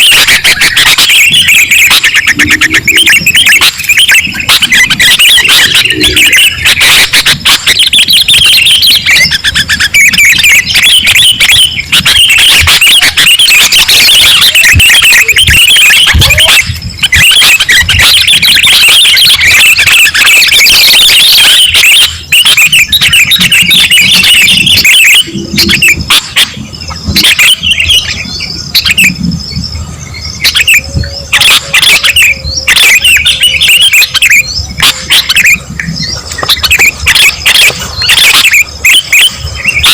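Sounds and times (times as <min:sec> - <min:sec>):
birds singing and chattering: 0:00.0 - 0:39.9.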